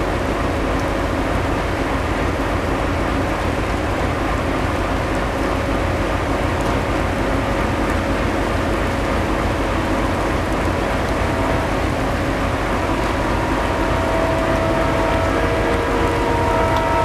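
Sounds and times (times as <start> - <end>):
diesel locomotive whine: 0.0 - 17.0
steady rain: 0.0 - 17.0.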